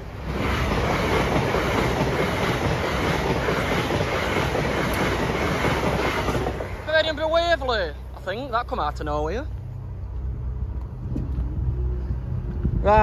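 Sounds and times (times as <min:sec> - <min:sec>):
passenger train passing at speed: 0:00.0 - 0:13.0.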